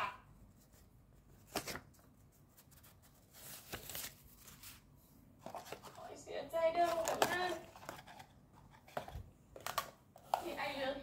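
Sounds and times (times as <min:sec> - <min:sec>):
paper and cardboard rustling: 0:00.5 - 0:06.1, 0:06.8 - 0:10.7.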